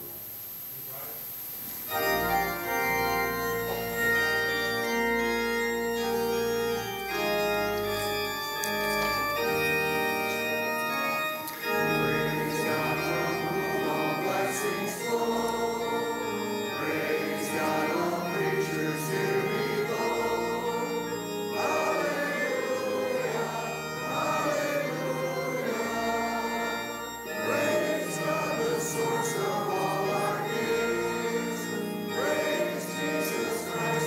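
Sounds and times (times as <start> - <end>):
church organ sustained chords: 0.0 - 34.0.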